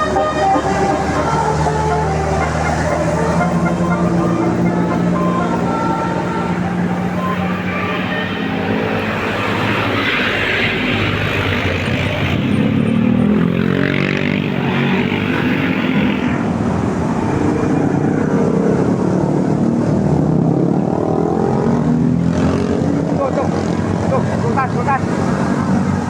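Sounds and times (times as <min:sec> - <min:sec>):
bus diesel engine passing: 0:00.0 - 0:26.0.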